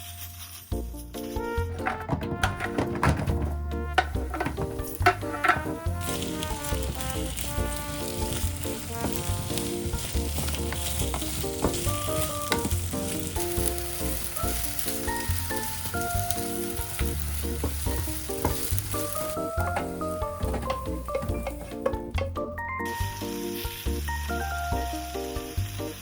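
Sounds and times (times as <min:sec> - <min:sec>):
background music with bass: 0:00.7 - 0:26.0
utensil clicking and scraping pan: 0:01.6 - 0:22.5
chicken sizzling in frying pan: 0:04.0 - 0:26.0.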